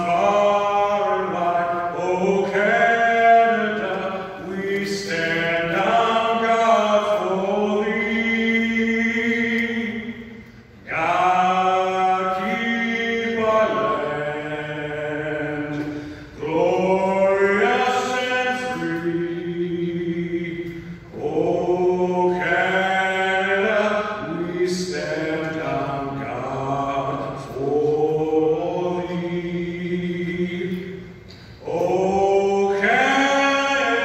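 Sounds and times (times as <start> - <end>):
man singing unaccompanied over pa: 0.0 - 34.0.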